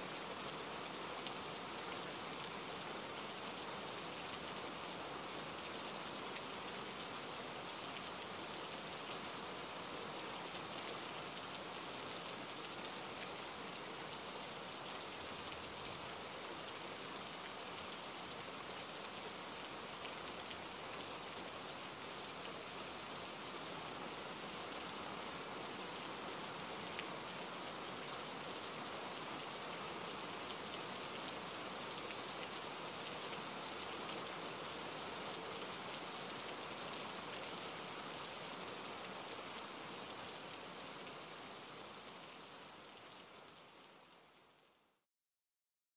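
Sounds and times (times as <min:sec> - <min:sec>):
light rain falling: 0:00.0 - 0:45.0.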